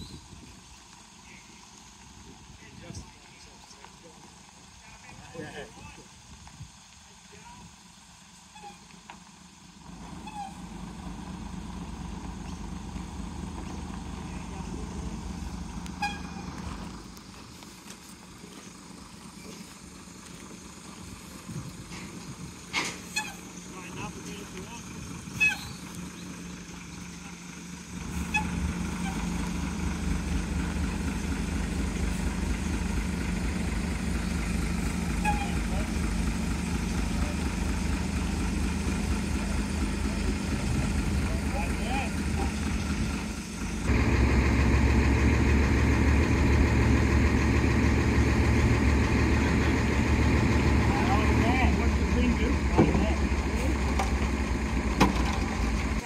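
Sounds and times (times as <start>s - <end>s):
truck engine revving: 9.5s - 56.0s.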